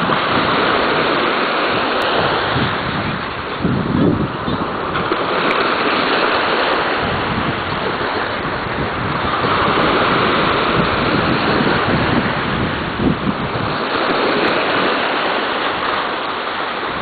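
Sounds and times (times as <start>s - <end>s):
ocean waves washing: 0.0s - 17.0s
wind buffeting microphone: 0.0s - 17.0s.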